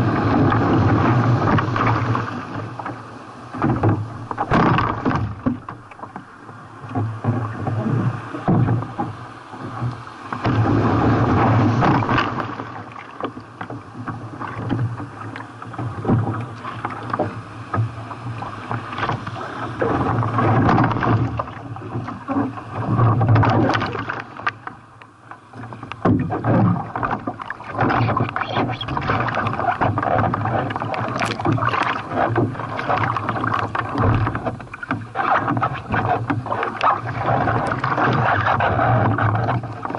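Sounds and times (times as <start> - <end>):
sea water splashing around kayak: 0.0 - 39.9.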